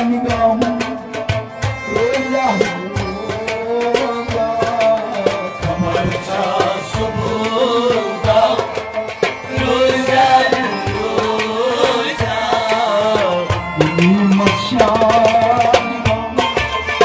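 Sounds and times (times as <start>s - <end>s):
hand drum beat: 0.0s - 17.0s
harmonium melody: 0.0s - 17.0s
string instrument: 0.0s - 17.0s.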